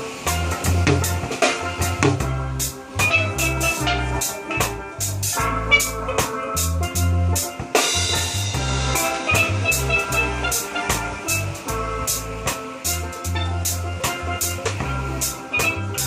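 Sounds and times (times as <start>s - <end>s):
drum and cymbal beat: 0.0s - 16.0s
low bass notes: 0.0s - 16.0s
steel drums melody: 0.0s - 16.0s.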